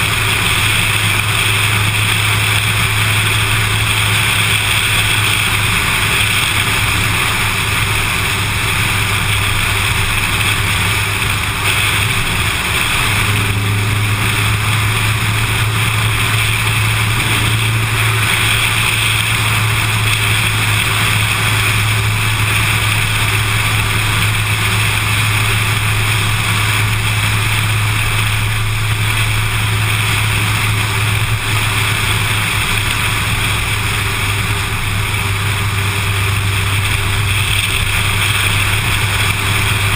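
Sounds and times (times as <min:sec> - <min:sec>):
car road noise: 0:00.0 - 0:39.9
constant low hum: 0:00.0 - 0:39.9
wind noise: 0:00.0 - 0:39.9.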